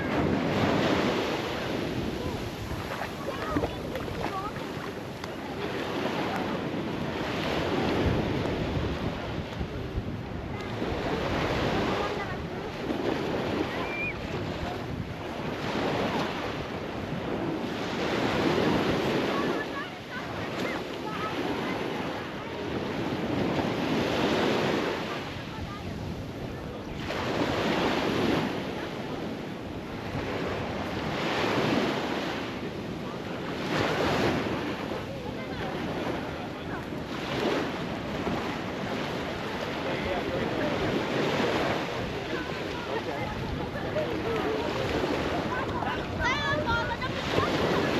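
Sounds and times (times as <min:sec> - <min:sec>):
ocean surf washing onto beach: 0:00.0 - 0:47.9
wind rumbling on microphone: 0:00.0 - 0:47.9.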